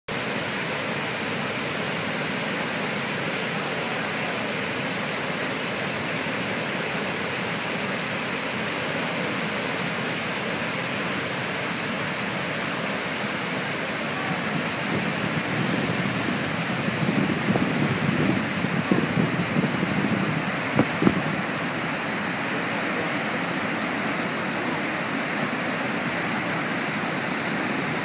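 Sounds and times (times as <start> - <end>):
waterfall rushing: 0.1 - 28.0.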